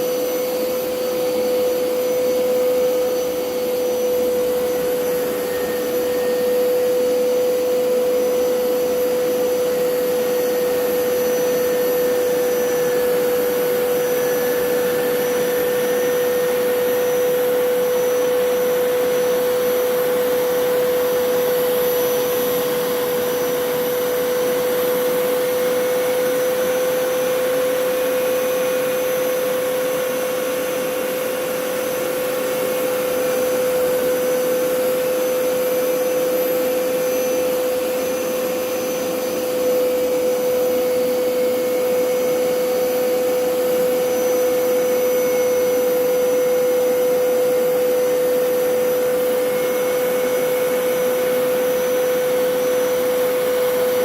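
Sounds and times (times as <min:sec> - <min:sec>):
carpet cleaner motor whine: 0:00.0 - 0:54.0.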